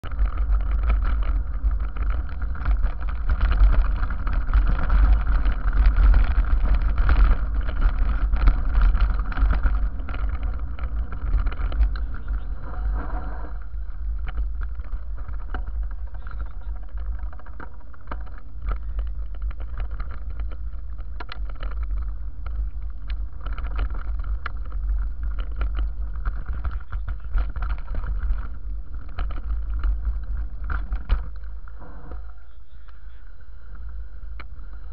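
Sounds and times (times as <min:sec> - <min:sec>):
tyres crunching over stones: 0:00.0 - 0:31.8
bike rattling: 0:00.0 - 0:34.9
wind rumble on microphone: 0:00.0 - 0:34.9.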